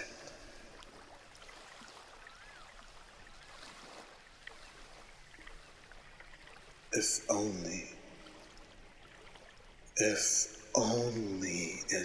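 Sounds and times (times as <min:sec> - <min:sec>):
flowing water: 0:00.0 - 0:12.0.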